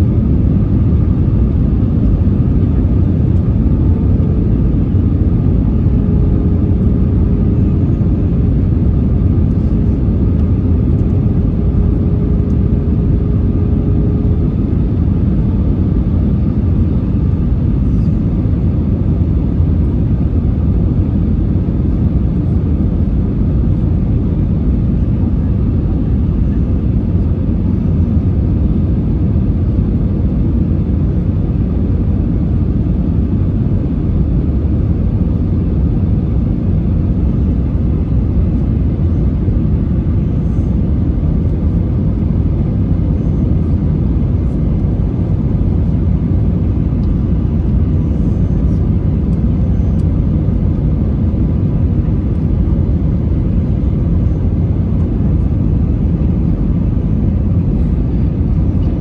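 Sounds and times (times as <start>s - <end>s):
airplane cabin roar: 0.0s - 59.0s
faint steady hum: 0.0s - 59.0s.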